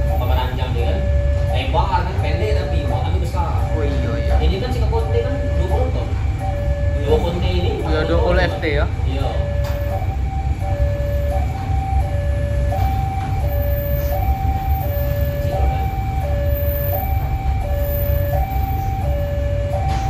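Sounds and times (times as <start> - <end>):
level crossing alarm: 0.0 - 20.0
train rumbling past: 0.0 - 20.0.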